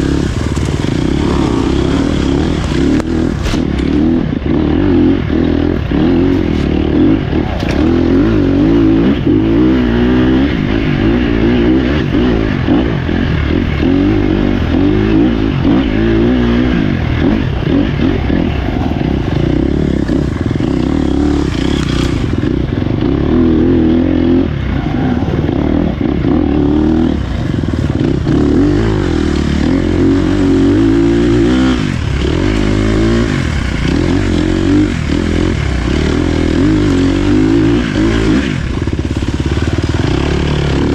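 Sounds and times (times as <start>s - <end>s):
dirt bike engine running hard: 0.0s - 40.9s.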